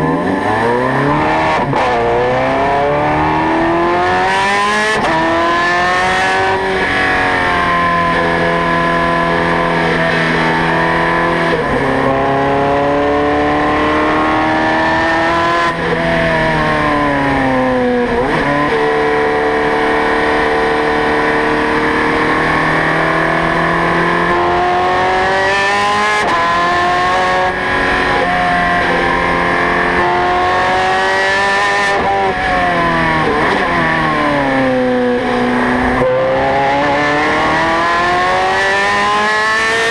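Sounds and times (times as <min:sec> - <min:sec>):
sports car engine revving through gears: 0:00.0 - 0:39.9.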